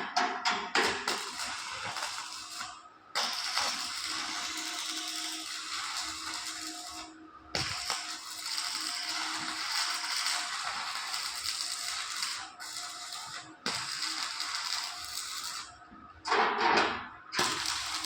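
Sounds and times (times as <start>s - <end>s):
welding arc crackling: 0.8s - 15.8s, 17.3s - 18.0s
welding machine hum: 0.8s - 15.9s, 17.3s - 18.0s.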